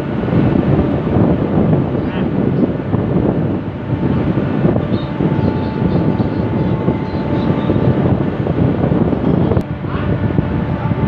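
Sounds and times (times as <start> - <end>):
faint steady whine: 0.0 - 11.0
wind buffeting microphone: 0.0 - 11.0.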